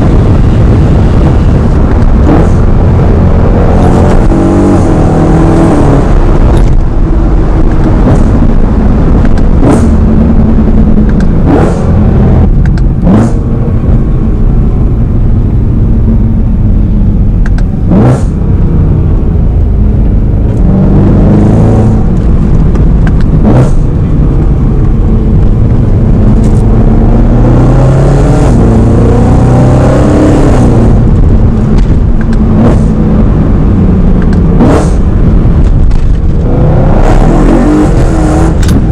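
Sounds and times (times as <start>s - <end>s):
exhaust cracks: 0.0s - 27.6s, 28.3s - 38.9s
car engine accelerating: 0.0s - 38.9s.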